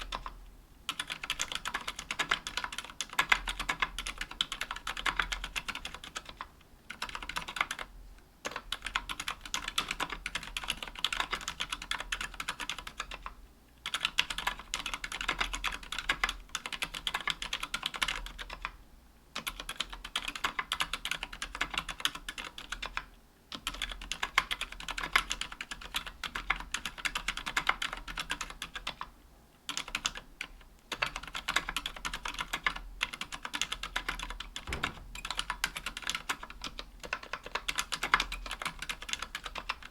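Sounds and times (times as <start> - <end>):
fast typing on mechanical keyboard: 0.0 - 18.8, 19.4 - 29.1, 29.7 - 39.9.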